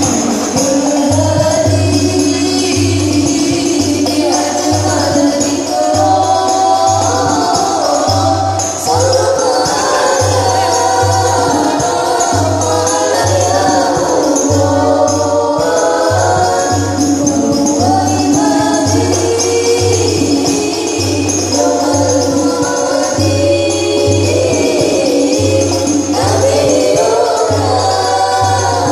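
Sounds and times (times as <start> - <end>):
group singing in unison: 0.0 - 28.9
jingling tambourine: 0.0 - 28.9.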